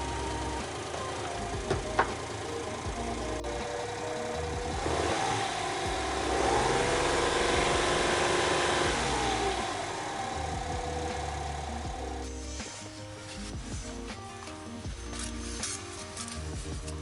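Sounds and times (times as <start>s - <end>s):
car engine idling and revving: 0.0s - 14.1s.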